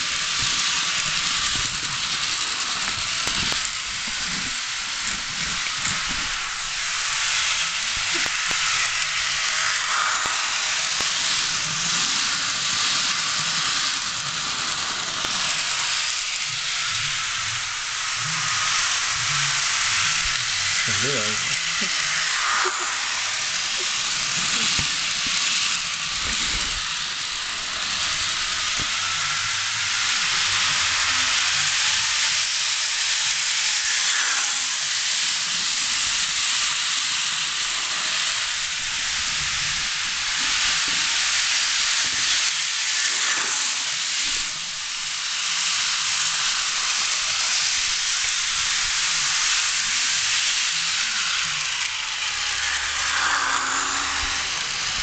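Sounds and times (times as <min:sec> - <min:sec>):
model train whirring on rails: 0:00.0 - 0:55.0.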